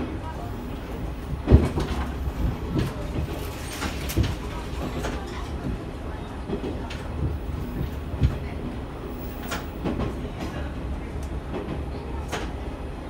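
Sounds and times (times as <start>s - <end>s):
railcar engine and wheels rumbling: 0.0s - 13.0s.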